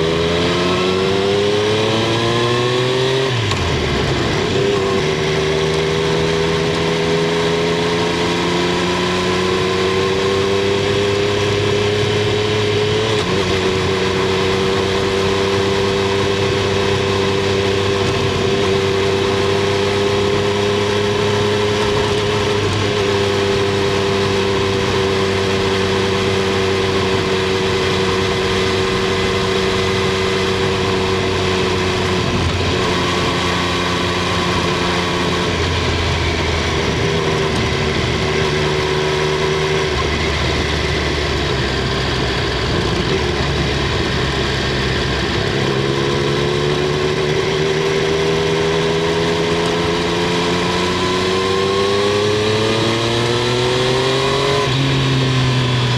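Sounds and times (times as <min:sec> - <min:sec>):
motorcycle engine and exhaust: 0:00.0 - 0:55.9.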